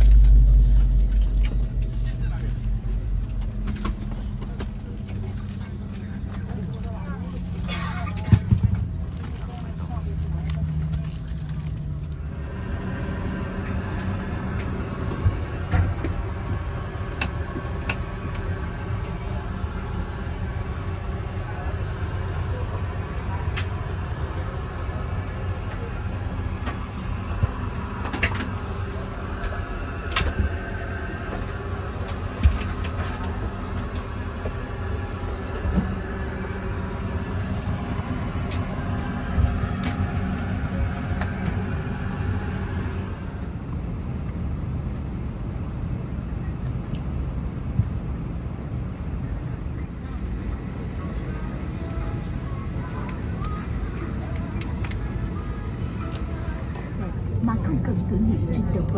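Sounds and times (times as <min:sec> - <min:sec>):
faint hum: 0:00.0 - 0:58.9
low interior rumble: 0:00.0 - 0:58.9.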